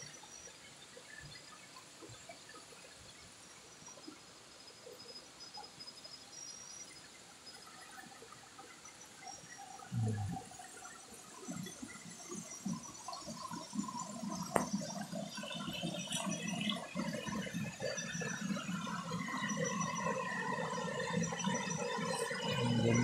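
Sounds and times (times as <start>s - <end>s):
water trickling: 0.0s - 23.0s.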